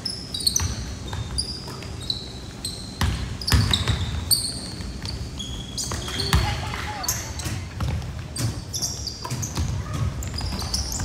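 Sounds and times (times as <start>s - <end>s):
sneakers squeaking: 0.0s - 11.0s.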